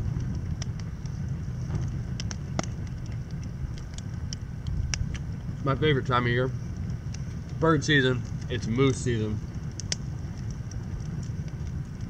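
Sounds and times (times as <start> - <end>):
campfire crackling: 0.0 - 12.0
low rumble: 0.0 - 12.0
sharp pops of fire: 0.0 - 12.0.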